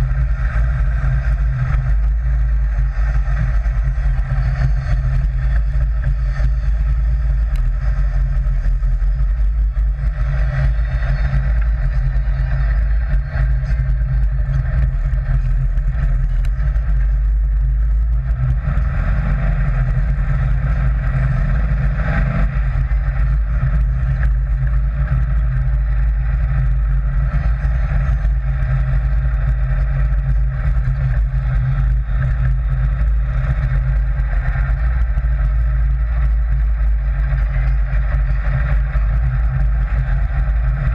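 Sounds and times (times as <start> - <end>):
dune buggy engine running: 0.0 - 40.9.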